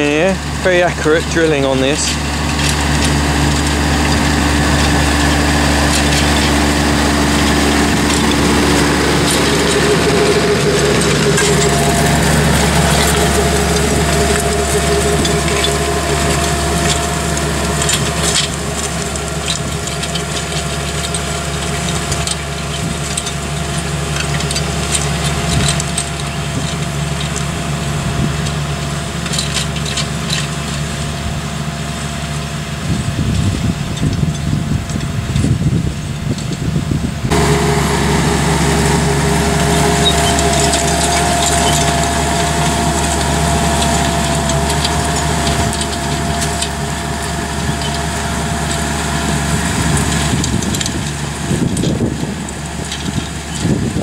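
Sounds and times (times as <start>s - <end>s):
tractor diesel engine: 0.0s - 54.0s.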